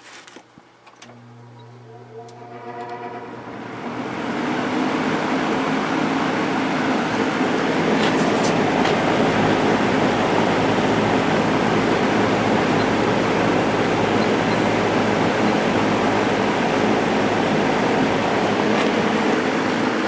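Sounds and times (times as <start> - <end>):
faint low motor hum: 0.4 - 20.0
box fan running on high: 1.0 - 20.0.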